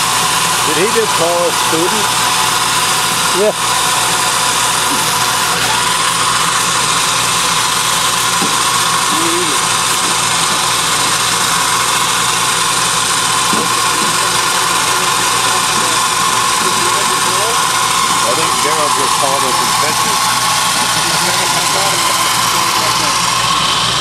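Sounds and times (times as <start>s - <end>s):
engine running: 0.0s - 24.0s
mortar caster high whine: 0.0s - 24.0s.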